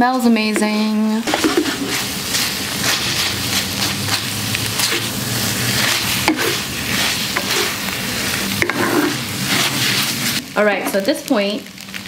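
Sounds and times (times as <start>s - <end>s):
noodles sizzling in a pan: 0.0s - 12.0s
spatula scraping a pan: 0.2s - 10.4s.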